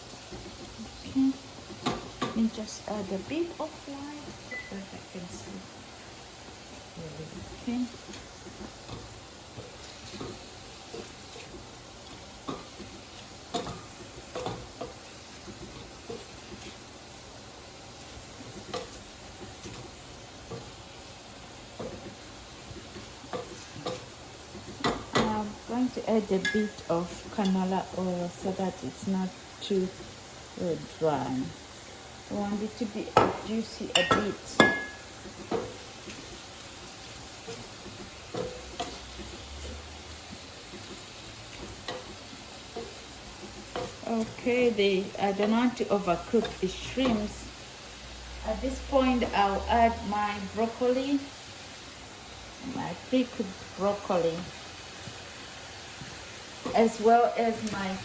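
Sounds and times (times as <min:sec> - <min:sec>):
food sizzling in hot oil: 0:00.0 - 0:58.0.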